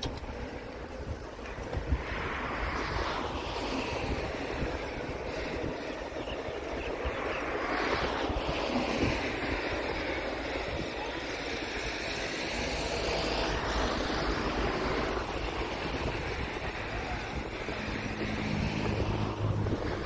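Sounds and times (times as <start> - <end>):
distant jet engine whine: 0.0 - 20.0
wind rushing over microphone: 0.0 - 20.0.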